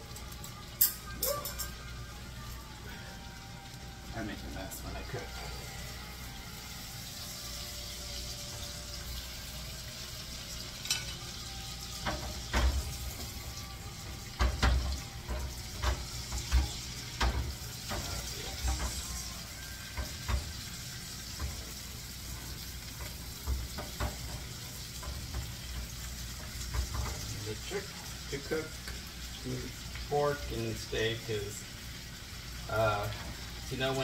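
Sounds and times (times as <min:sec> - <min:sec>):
meat sizzling in a skillet: 0:00.0 - 0:34.0.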